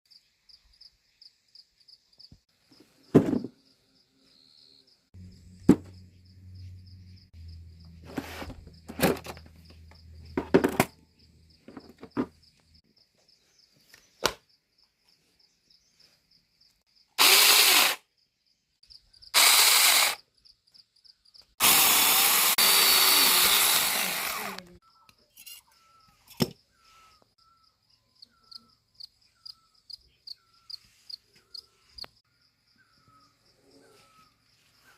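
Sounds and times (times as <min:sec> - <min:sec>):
crickets chirping: 0:00.1 - 0:13.9, 0:14.5 - 0:21.6, 0:24.8 - 0:34.9.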